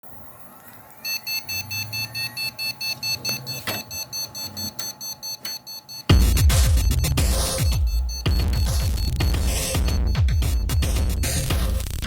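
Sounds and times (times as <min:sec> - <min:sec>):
rapid high beeps: 0:01.0 - 0:12.0.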